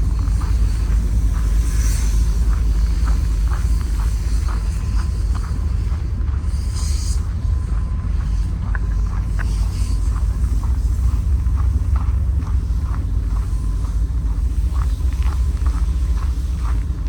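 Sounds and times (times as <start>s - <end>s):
diesel train idling: 0.0s - 17.0s.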